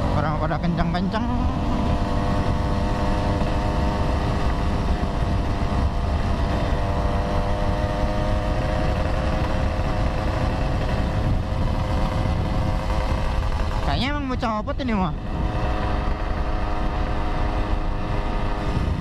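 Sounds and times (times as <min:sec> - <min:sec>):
scooter engine running: 0:00.0 - 0:19.0
wind rumbling on microphone: 0:00.0 - 0:19.0.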